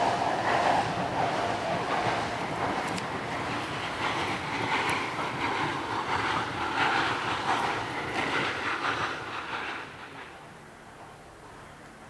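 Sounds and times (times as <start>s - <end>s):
steam train rumble with knocks: 0.0s - 12.0s.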